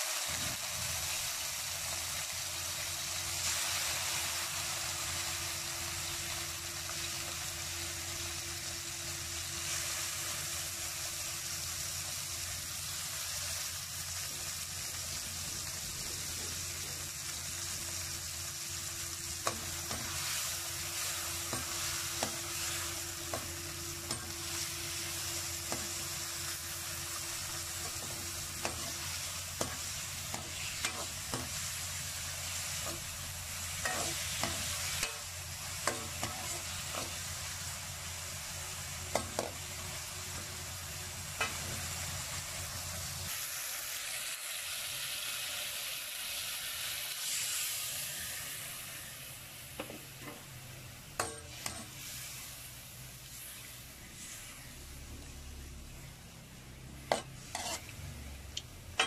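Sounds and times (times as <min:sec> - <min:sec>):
liver sizzling in a wok: 0:00.0 - 0:59.0.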